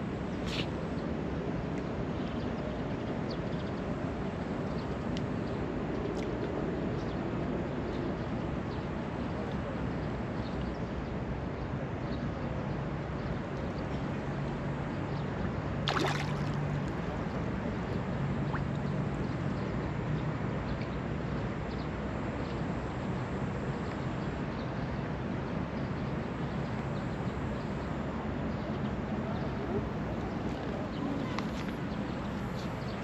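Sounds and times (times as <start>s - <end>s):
continuous rushing hiss: 0.0s - 33.0s.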